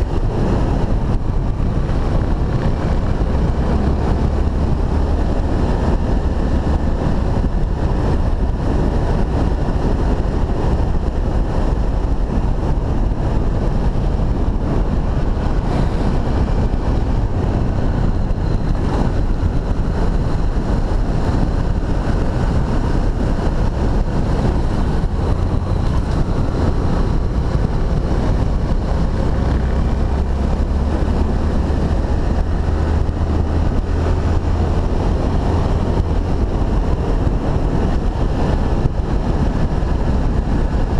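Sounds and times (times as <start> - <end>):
motorcycle engine running: 0.0 - 40.9
wind on microphone: 0.0 - 40.9.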